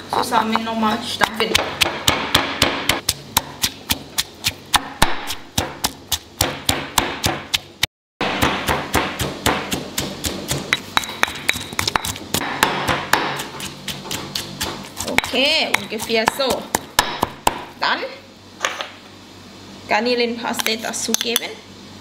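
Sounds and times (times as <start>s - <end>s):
pestle pounding in a mortar: 0.1s - 17.8s.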